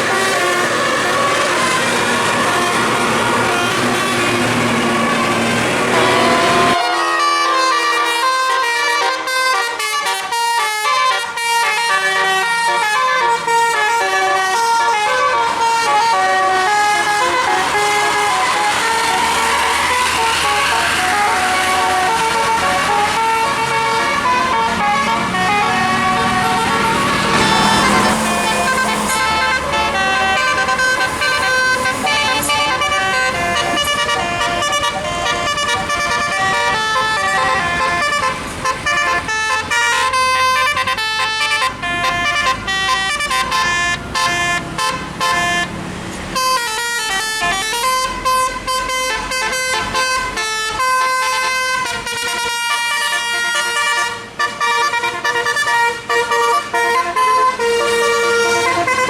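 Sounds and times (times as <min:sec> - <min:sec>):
electric air horn playing tune: 0:00.0 - 0:45.7, 0:46.4 - 0:59.0
bus engine rumbling: 0:00.0 - 0:59.0.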